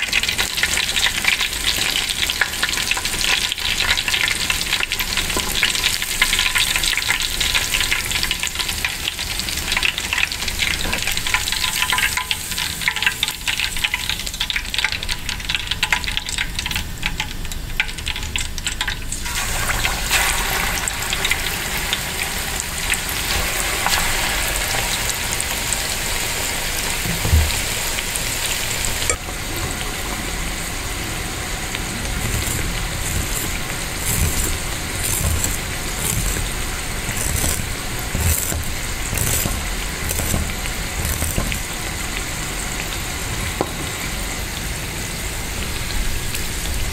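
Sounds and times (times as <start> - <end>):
oil sizzling and crackling: 0.0 - 46.9.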